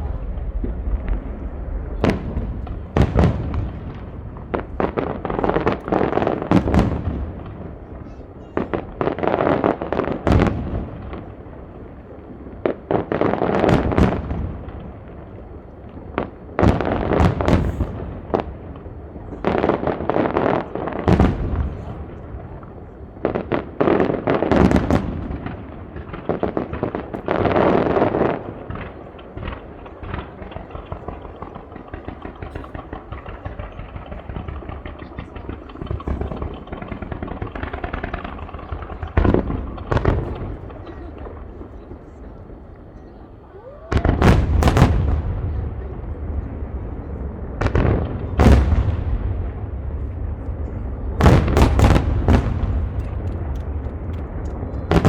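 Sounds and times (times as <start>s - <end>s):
fireworks pops and crackles: 0.0s - 55.0s.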